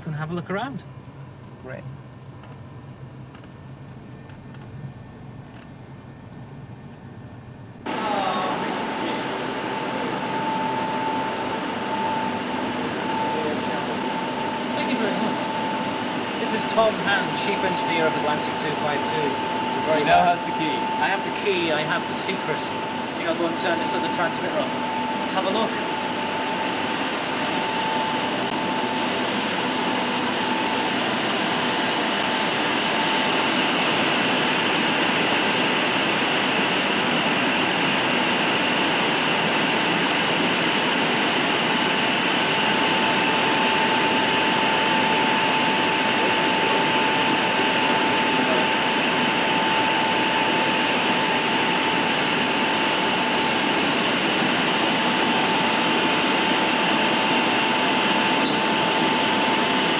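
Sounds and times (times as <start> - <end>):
thin steady whine: 0.0 - 59.9
rushing transmitter noise: 7.9 - 59.9.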